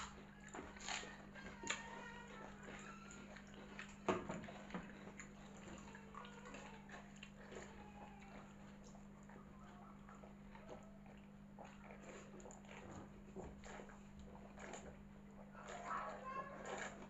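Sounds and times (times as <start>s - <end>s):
faint wet sloshing: 0.0s - 17.0s.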